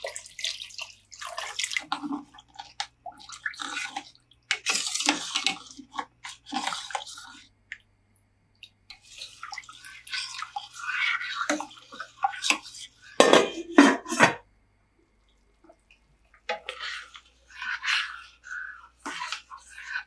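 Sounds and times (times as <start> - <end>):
broth sloshing in metal pot: 0.0 - 7.8, 8.6 - 14.5, 15.2 - 20.0
metal ladle stirring soup: 0.4 - 7.5, 8.9 - 14.4, 16.3 - 20.0.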